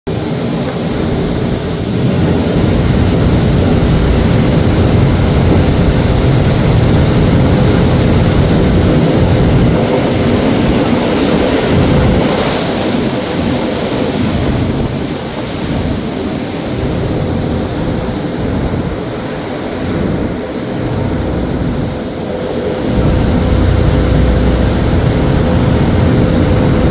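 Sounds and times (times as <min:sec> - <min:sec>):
ferry engine drone: 0:00.1 - 0:26.9
rushing water: 0:00.1 - 0:26.9
wind buffeting microphone: 0:00.1 - 0:26.9.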